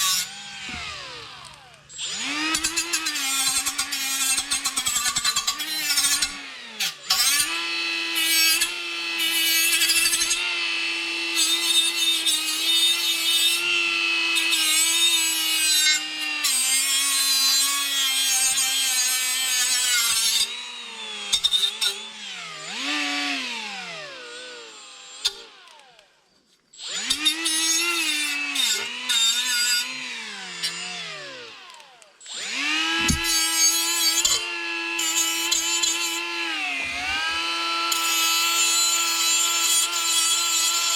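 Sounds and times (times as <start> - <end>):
angle grinder on sheet metal: 0.0 - 25.8, 26.8 - 40.9.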